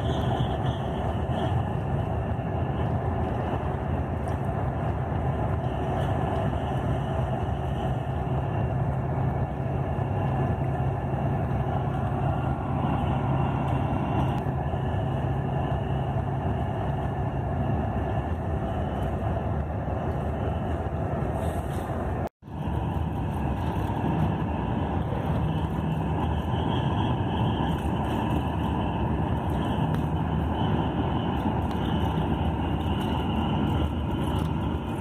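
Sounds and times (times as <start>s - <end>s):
coach engine and road noise: 0.0s - 35.0s.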